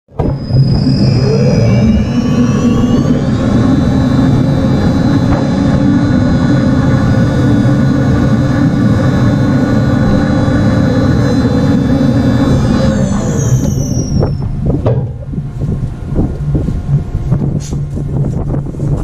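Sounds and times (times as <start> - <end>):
high machine whine: 0.1 - 19.0
ship machinery low drone: 0.1 - 19.0.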